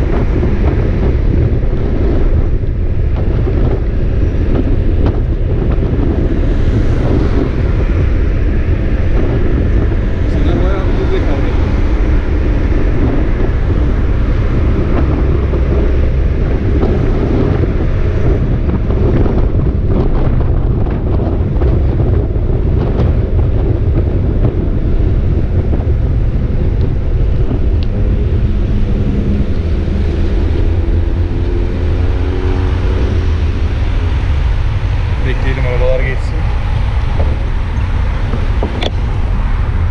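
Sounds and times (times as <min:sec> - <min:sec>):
cars passing: 0:00.0 - 0:39.9
wind buffeting microphone: 0:00.0 - 0:39.9.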